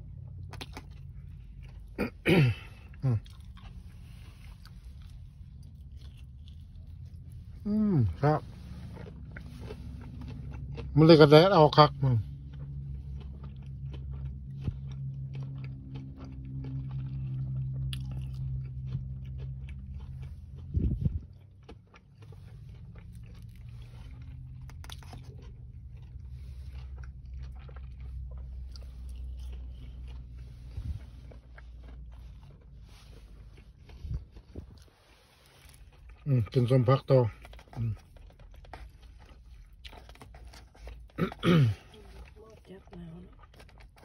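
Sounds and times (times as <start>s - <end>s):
crunchy chewing and biting: 0.0s - 44.0s.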